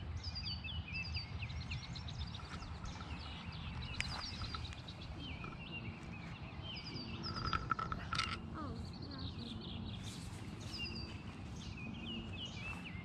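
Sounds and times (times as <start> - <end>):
songbirds chirping and singing: 0.0 - 13.0.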